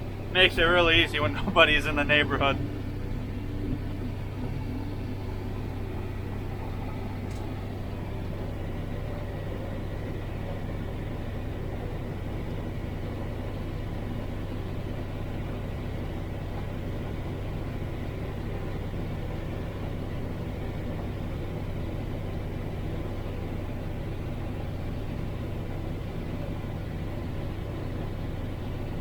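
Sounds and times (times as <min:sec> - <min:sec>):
combine harvester droning: 0:00.0 - 0:29.0.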